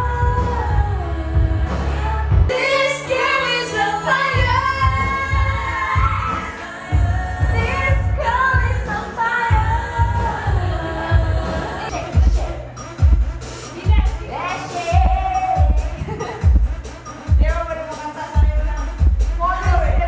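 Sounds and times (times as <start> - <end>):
woman singing pop song: 0.0 - 16.5
backing track with heavy bass: 0.0 - 20.0.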